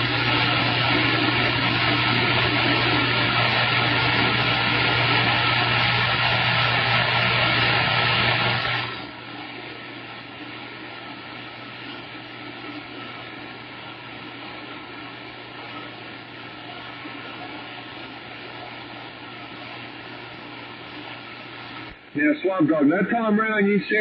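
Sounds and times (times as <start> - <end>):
radio static hiss: 0.0 - 24.0
voice buried in radio noise: 0.0 - 24.0.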